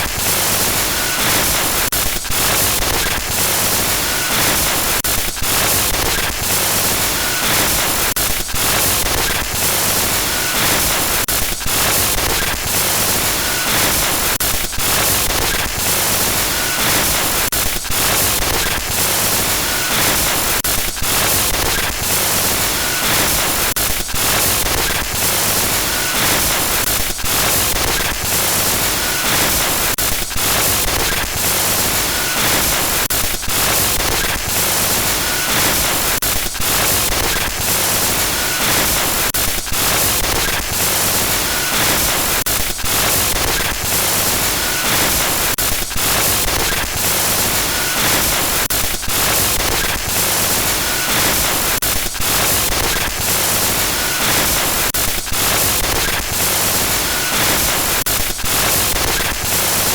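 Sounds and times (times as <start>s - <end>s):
harsh glitchy static hiss: 0.0s - 59.9s.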